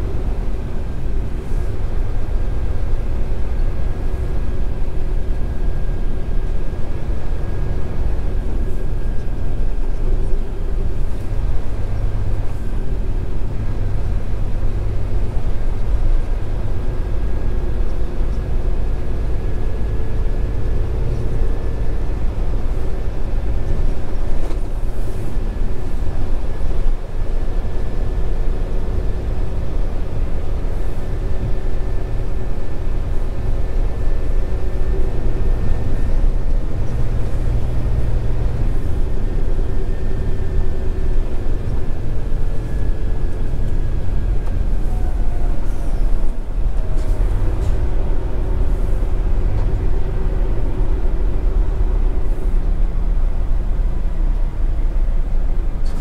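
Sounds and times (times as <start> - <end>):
diesel truck engine drone: 0.0 - 56.0
faint engine whine: 0.0 - 56.0.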